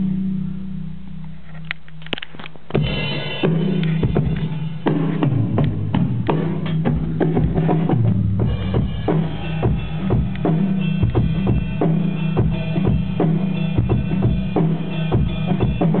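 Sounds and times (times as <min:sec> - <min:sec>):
bass line: 0:00.0 - 0:01.4, 0:02.8 - 0:16.0
drum kit groove: 0:02.6 - 0:16.0
pitched instruments: 0:02.8 - 0:16.0.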